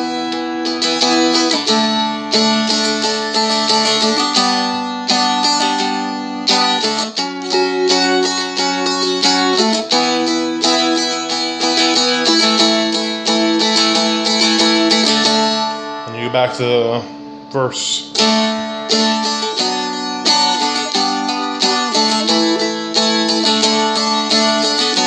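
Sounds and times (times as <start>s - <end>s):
dulcimer strummed chords: 0.0s - 25.0s.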